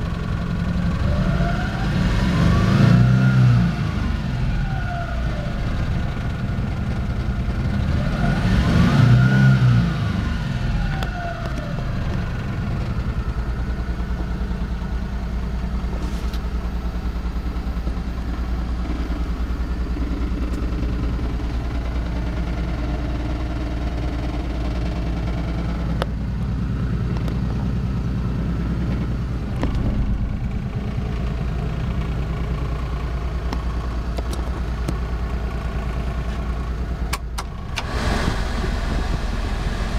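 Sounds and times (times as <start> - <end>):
small truck engine idling and revving: 0.0 - 39.9.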